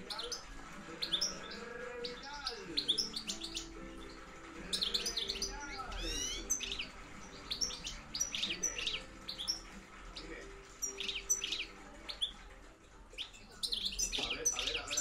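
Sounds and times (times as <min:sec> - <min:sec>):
finch twittering chirps: 0:00.0 - 0:12.4, 0:13.1 - 0:15.0.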